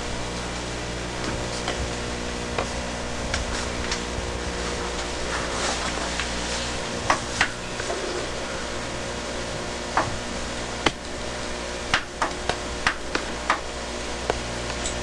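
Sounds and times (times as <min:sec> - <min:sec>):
tape hiss and hum: 0:00.0 - 0:15.0.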